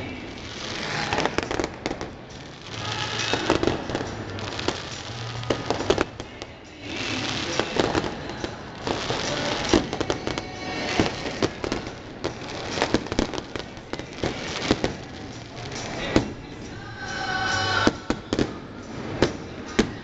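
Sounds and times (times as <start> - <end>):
crackle of fireworks stars: 0.0 - 20.0
fireworks bangs: 0.0 - 20.0.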